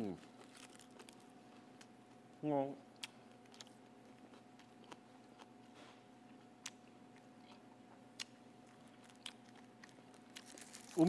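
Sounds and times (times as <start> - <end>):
faint room hum: 0.0 - 11.0
man chewing crusty bread: 0.4 - 2.2, 3.0 - 11.0.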